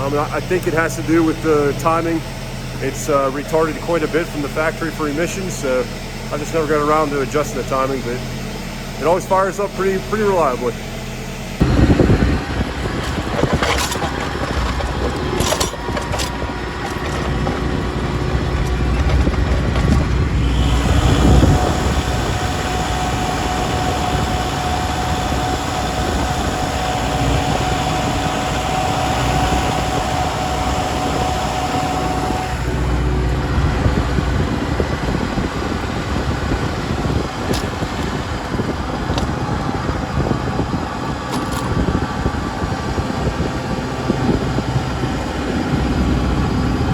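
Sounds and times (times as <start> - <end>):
high whine: 0.0 - 46.9
tractor diesel engine running: 0.0 - 46.9.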